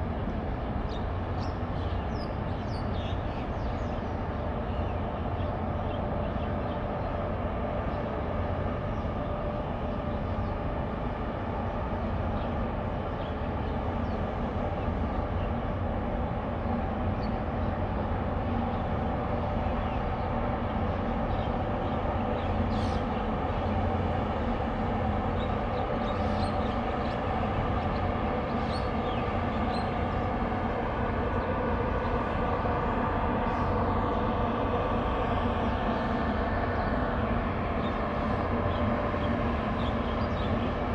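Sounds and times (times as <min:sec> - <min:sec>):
ship engines rumbling: 0:00.0 - 0:40.9.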